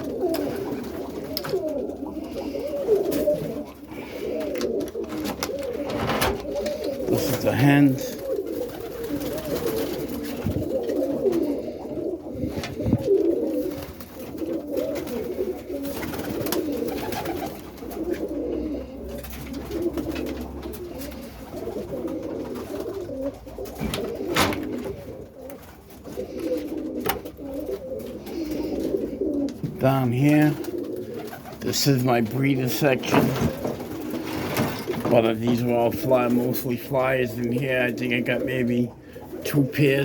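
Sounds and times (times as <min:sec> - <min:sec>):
pigeons cooing: 0:00.0 - 0:40.0.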